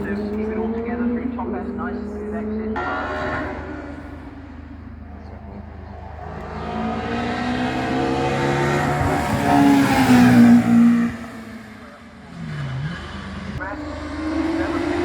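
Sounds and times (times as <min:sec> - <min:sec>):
racing car engine accelerating past: 0:00.0 - 0:15.0.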